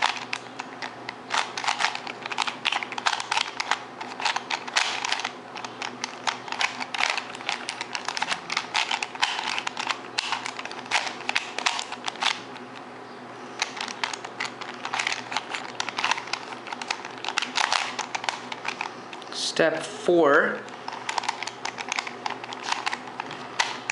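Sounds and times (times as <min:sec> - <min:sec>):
puzzle cube plastic clicks: 0:00.0 - 0:12.6, 0:13.6 - 0:19.2, 0:20.7 - 0:23.9.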